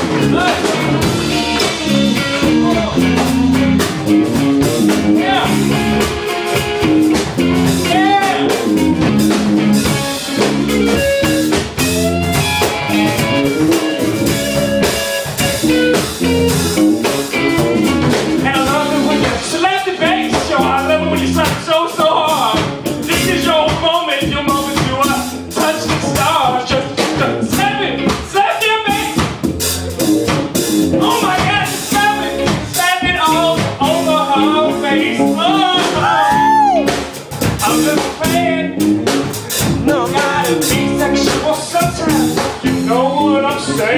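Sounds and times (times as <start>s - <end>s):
bluesy funk band with singer: 0.0s - 43.9s.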